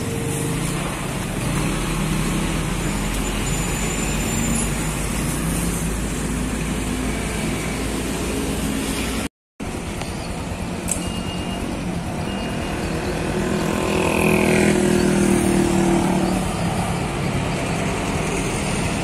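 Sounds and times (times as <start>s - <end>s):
road traffic: 0.0s - 19.0s
truck diesel engine under load: 0.0s - 19.0s.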